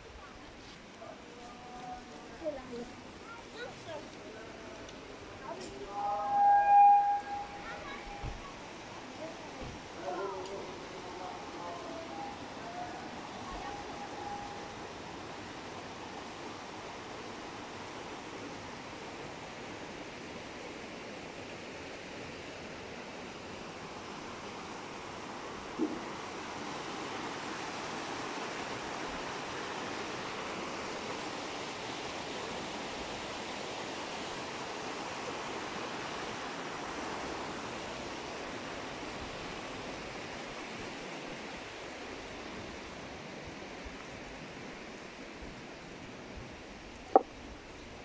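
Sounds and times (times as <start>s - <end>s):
stream rushing over cascades: 7.4s - 48.0s.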